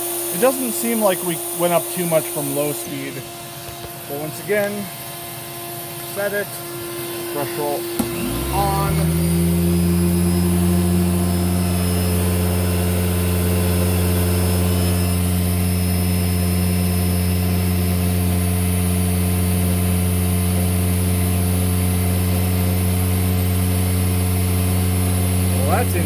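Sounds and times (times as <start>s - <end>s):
vacuum cleaner humming: 0.0s - 26.0s.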